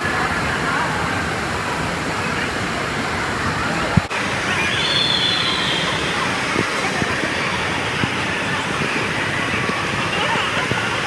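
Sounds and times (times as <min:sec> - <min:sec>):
many distant voices: 0:00.0 - 0:11.0
rushing water: 0:00.0 - 0:11.0.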